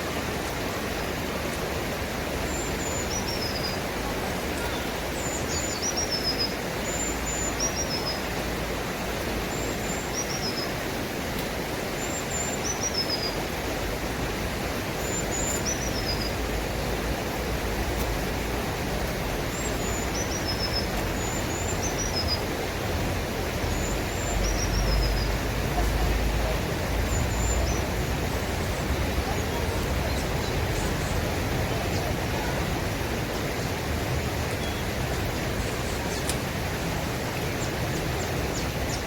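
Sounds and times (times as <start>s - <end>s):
songbird chirping: 0.7s - 8.6s, 9.2s - 10.9s, 14.9s - 17.2s, 17.9s - 39.0s.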